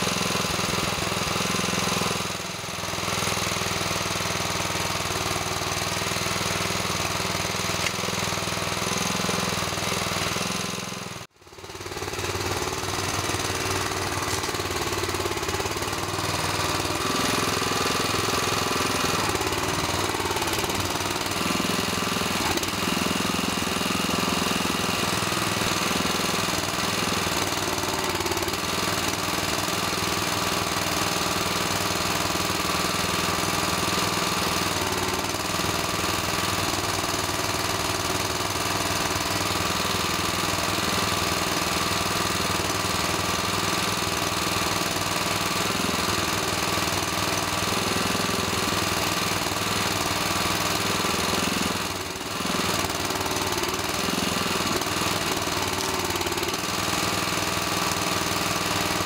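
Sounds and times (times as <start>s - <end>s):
small petrol engine running: 0.0s - 59.0s.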